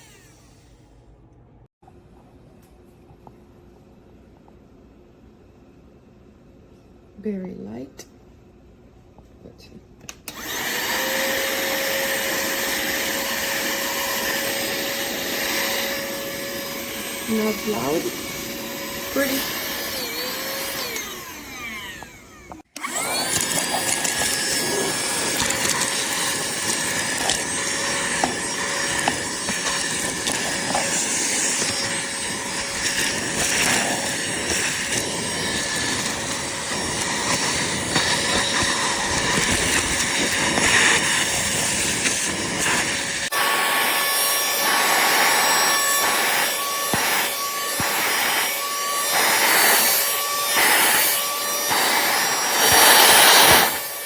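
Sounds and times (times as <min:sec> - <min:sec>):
handheld vacuum motor whining: 0:00.0 - 0:01.0, 0:10.1 - 0:54.0
vacuum nozzle scraping a surface: 0:10.3 - 0:54.0.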